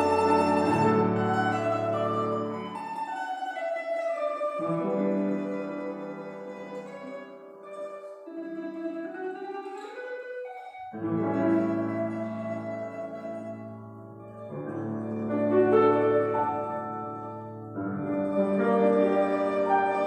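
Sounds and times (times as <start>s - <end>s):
piano accompaniment: 0.0s - 9.9s, 10.9s - 20.0s
plucked string melody: 0.0s - 20.0s.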